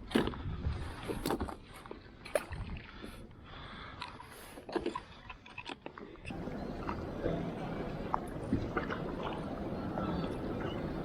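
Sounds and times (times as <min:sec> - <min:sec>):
water noise: 0:00.7 - 0:11.0.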